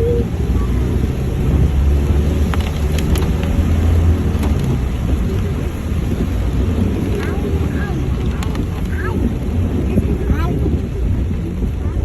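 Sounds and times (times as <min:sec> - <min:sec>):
vehicle engine and road drone: 0:00.0 - 0:12.0.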